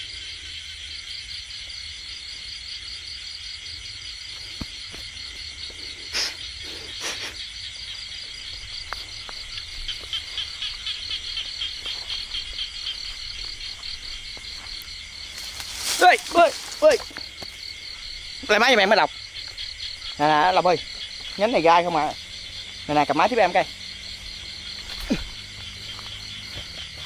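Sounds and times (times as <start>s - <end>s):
crickets and insects chirring: 0.0s - 27.0s
fast pulsing insect trill: 0.0s - 27.0s.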